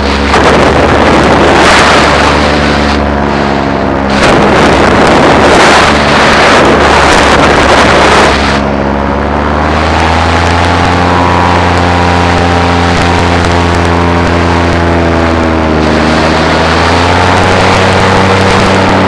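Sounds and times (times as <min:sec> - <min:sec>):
paramotor engine and propeller: 0:00.0 - 0:19.0
wind buffeting the microphone: 0:00.0 - 0:19.0.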